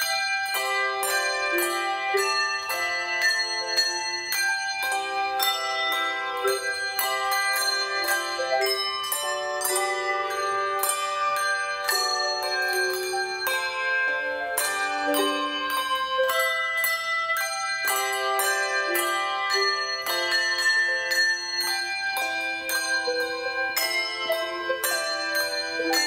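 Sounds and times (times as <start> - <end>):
handbell choir playing: 0.0 - 26.0.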